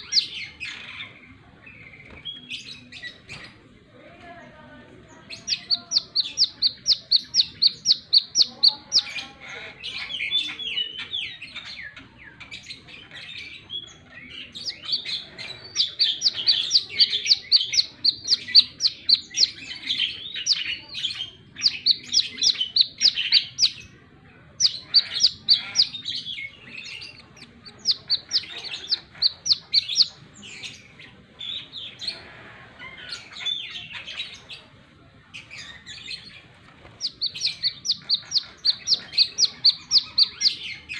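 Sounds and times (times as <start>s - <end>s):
bird singing high chirps: 0.0s - 3.4s, 5.2s - 23.9s, 24.6s - 32.2s, 35.4s - 40.9s.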